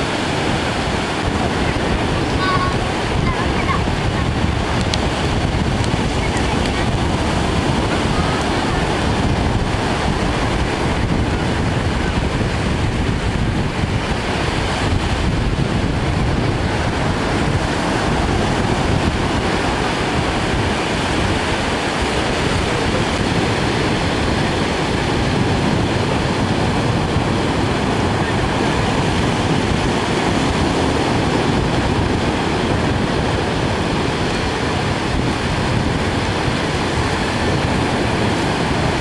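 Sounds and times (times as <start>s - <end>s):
surf washing onto beach: 0.0s - 39.0s
wind buffeting microphone: 0.0s - 39.0s.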